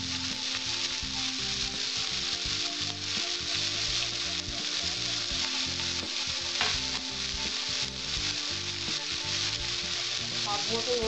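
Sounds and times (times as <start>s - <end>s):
leaves sizzling in oil: 0.0s - 11.0s.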